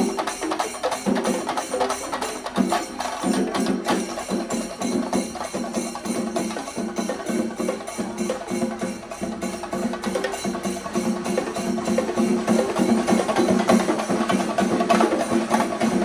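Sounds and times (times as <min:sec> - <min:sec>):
quick drum strokes: 0:00.0 - 0:16.0.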